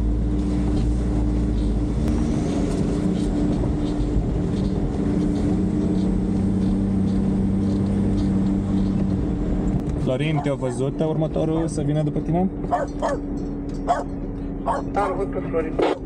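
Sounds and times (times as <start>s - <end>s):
car engine running inside cabin: 0.0s - 16.0s
deep rumble: 0.0s - 16.0s.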